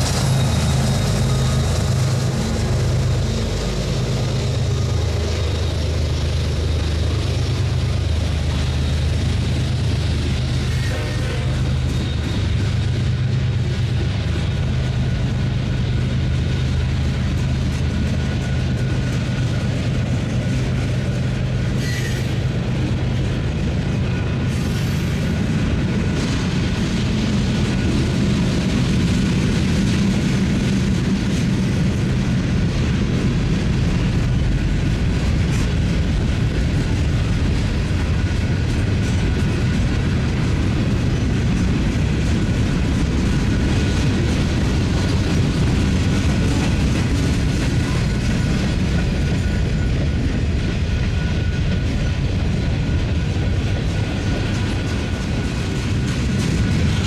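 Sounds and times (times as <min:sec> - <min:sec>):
diesel locomotive engines droning: 0:00.0 - 0:57.0
train cars rumbling over rails: 0:00.0 - 0:57.0.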